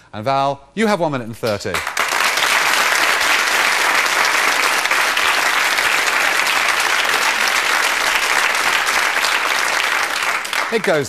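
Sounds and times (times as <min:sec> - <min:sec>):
audience applause: 0:01.8 - 0:11.0.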